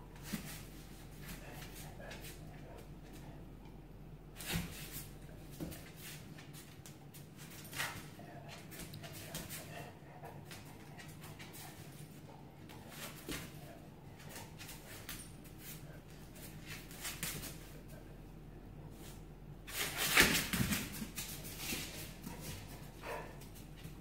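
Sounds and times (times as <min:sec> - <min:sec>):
paws scuffling on tiles: 0:00.0 - 0:03.8, 0:04.4 - 0:24.0.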